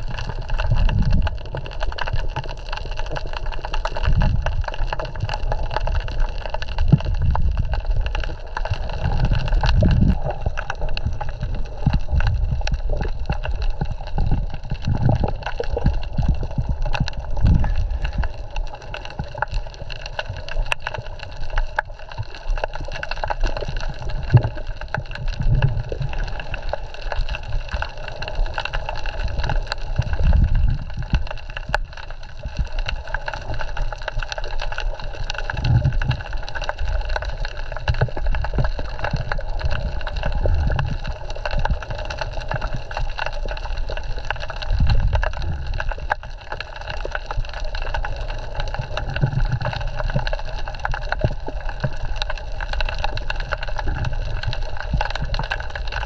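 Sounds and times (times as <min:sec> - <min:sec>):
crackle of tiny underwater clicks: 0:00.0 - 0:56.0.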